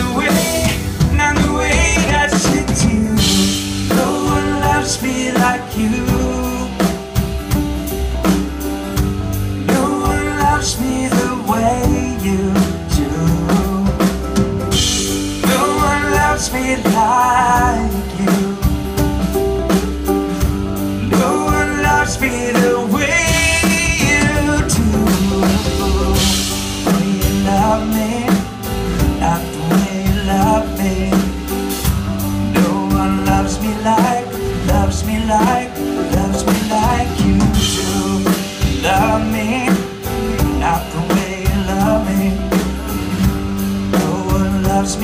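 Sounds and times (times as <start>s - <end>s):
man singing lead vocal: 0.0s - 7.6s, 9.3s - 19.8s, 20.4s - 45.0s
drum kit beat: 0.0s - 45.0s
guitars and bass: 0.0s - 45.0s.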